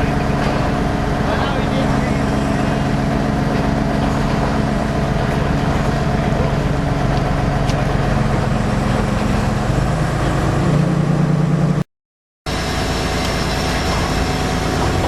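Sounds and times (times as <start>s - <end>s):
diesel engine running: 0.0s - 11.8s, 12.5s - 15.0s.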